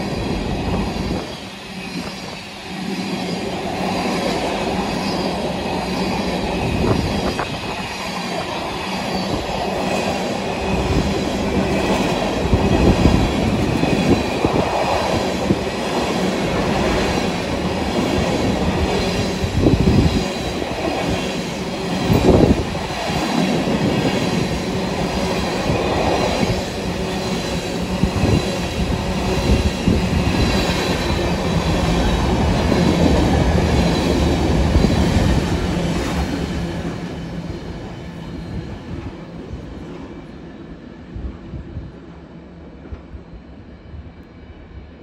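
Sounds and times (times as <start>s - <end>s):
freight train wheels rumbling: 0.0s - 45.0s.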